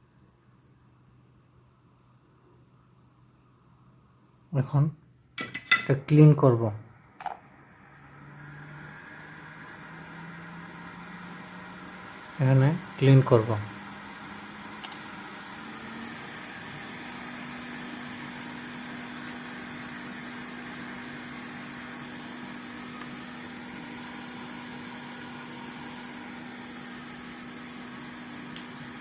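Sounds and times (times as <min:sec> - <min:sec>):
small fan whirring: 0:05.2 - 0:29.0.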